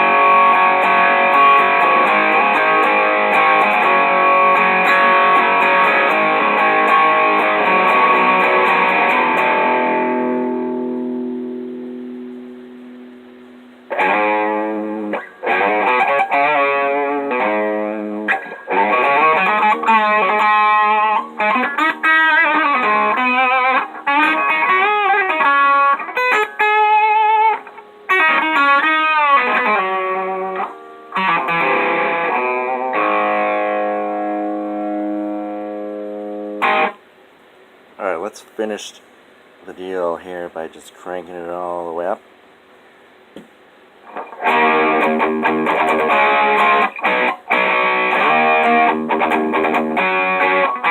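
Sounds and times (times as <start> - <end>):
electric guitar with treble boost: 0.0 - 37.2, 44.0 - 50.9.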